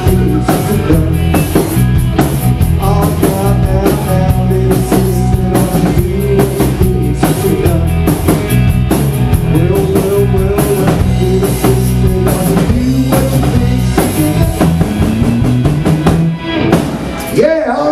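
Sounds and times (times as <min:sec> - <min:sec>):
drum kit: 0:00.0 - 0:17.9
electric bass: 0:00.0 - 0:17.9
electric guitar lead with bent notes: 0:00.0 - 0:17.9.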